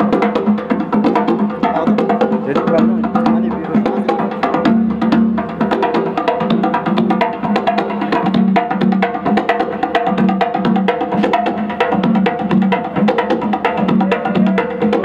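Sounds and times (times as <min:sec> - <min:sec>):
fast clacking percussion: 0:00.0 - 0:15.0
steady low drum beat: 0:00.0 - 0:15.0.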